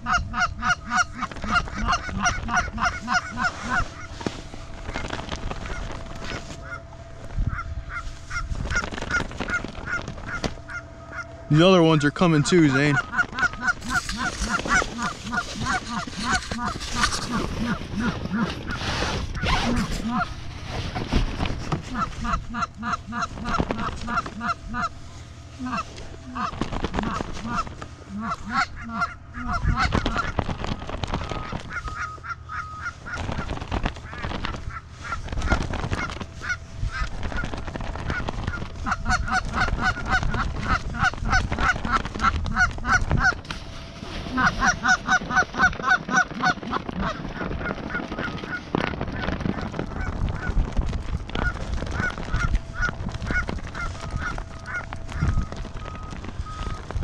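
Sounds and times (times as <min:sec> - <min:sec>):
goose honking and clucking: 0:00.0 - 0:57.0.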